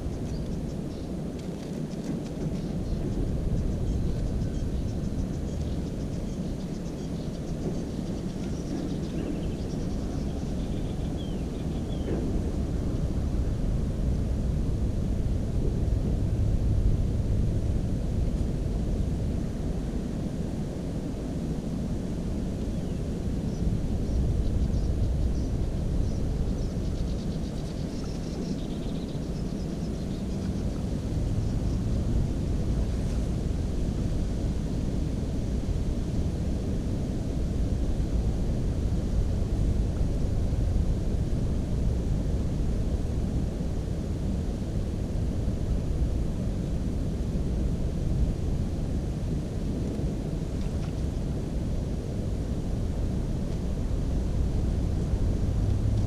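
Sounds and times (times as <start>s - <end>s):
low rumbling wind noise: 0.0s - 56.0s.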